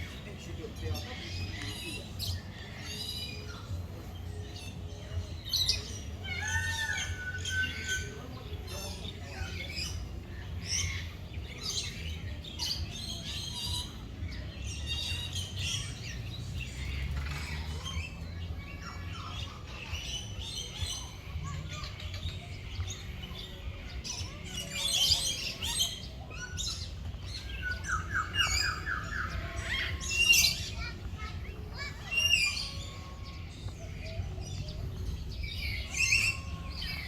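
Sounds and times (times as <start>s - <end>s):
birds chirping and squawking: 0.0s - 37.0s.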